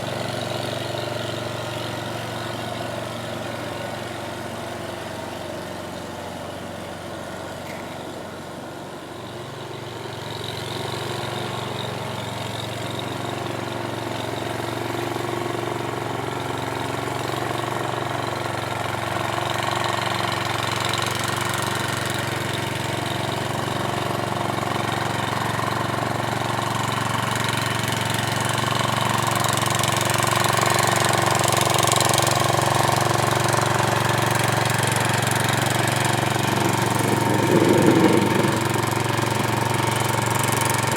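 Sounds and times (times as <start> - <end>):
garden tractor engine running: 0.0 - 40.9.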